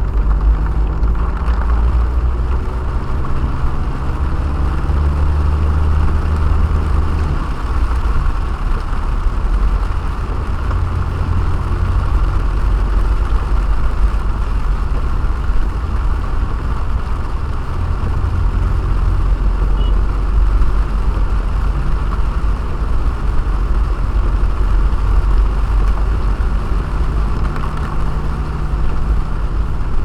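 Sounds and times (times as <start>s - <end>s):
car engine rumble inside cabin: 0.0s - 30.0s
road noise hiss: 0.0s - 30.0s.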